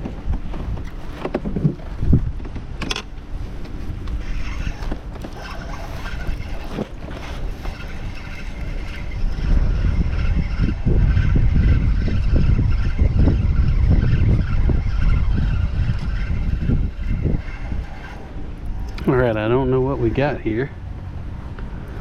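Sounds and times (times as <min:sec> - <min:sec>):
faint whir: 0:00.0 - 0:22.0
wind buffeting microphone: 0:00.0 - 0:22.0.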